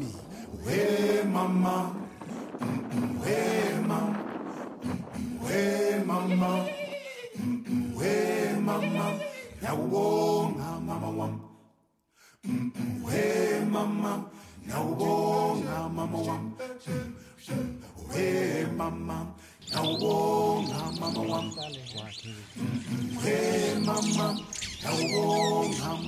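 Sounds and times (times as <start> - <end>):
a cappella voices singing: 0.0 - 26.0.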